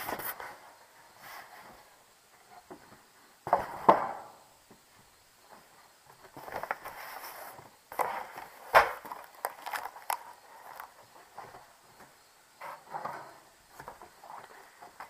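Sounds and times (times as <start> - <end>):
cardboard rustling and scraping: 0.0 - 4.3, 5.5 - 15.0.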